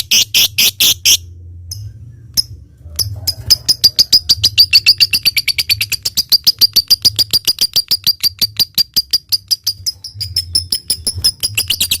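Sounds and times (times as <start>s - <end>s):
lovebird chattering trill: 0.0s - 1.2s, 2.4s - 12.0s.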